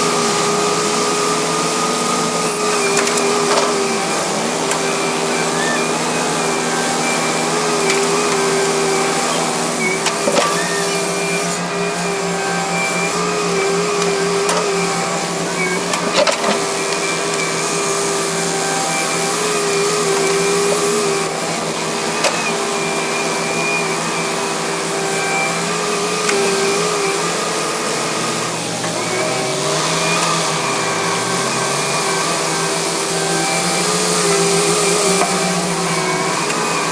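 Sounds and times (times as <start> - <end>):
excavator diesel engine drone: 0.0 - 36.9.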